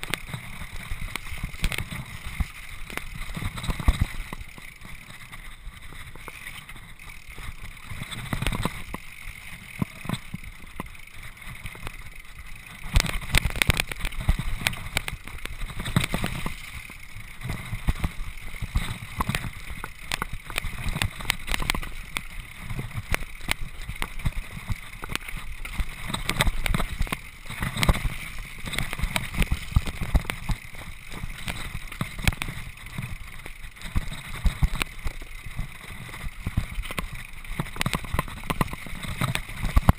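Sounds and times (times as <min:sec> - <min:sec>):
mountain bike rattling over rocks: 0:00.0 - 0:39.9.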